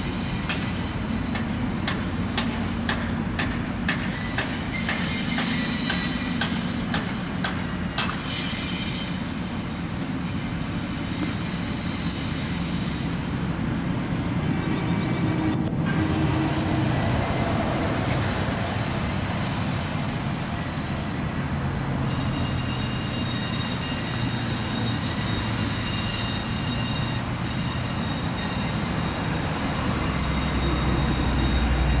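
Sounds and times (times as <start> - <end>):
high thin wheel squeal: 0.0 - 2.8, 3.9 - 13.8, 14.5 - 32.0
train rolling on tracks: 0.0 - 32.0.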